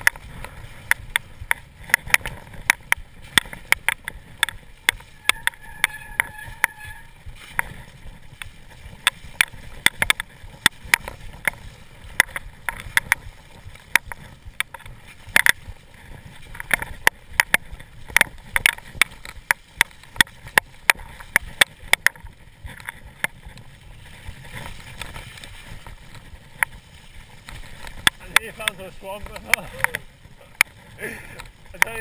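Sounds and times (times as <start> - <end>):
bike clicking and knocking: 0.0 - 32.0
low rumble of tyres: 0.0 - 32.0.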